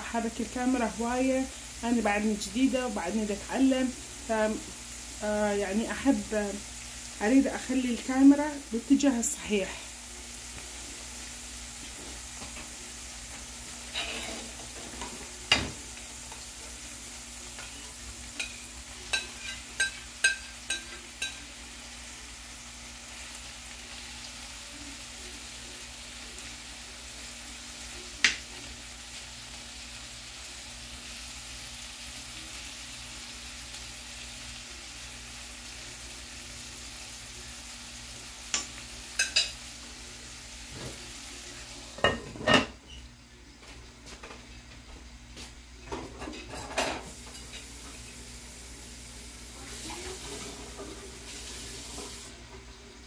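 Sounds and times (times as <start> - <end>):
food sizzling in frying pan: 0.0 - 53.0.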